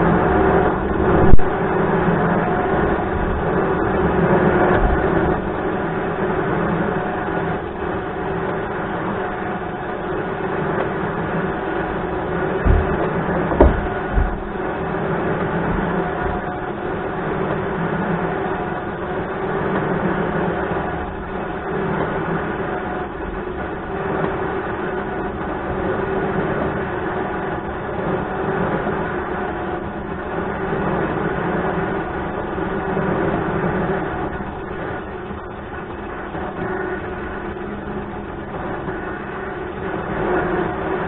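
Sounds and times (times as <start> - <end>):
electric winch motor droning: 0.0 - 30.8, 31.4 - 41.0.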